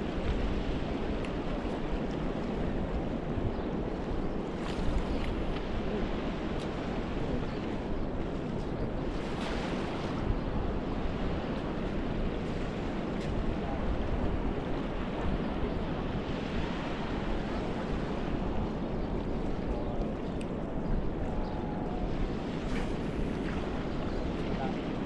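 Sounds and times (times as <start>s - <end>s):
small waves lapping shore: 0.0s - 25.0s
wind buffeting microphone: 0.0s - 25.0s.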